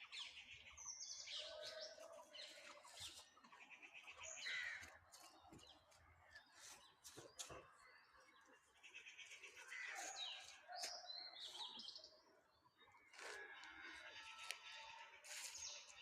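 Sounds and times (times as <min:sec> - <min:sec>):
wild birds chirping: 0:00.0 - 0:16.0.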